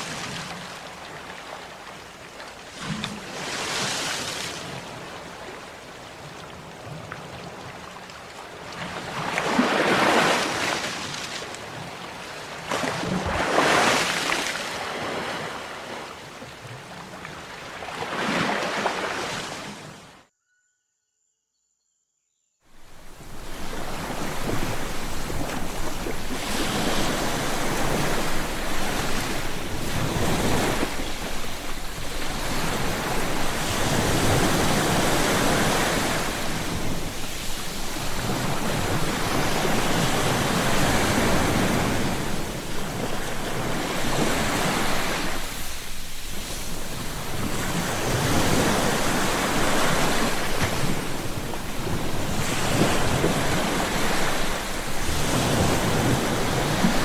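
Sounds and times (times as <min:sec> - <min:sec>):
ocean waves washing up a shore: 0:00.0 - 0:20.2, 0:22.7 - 0:57.0.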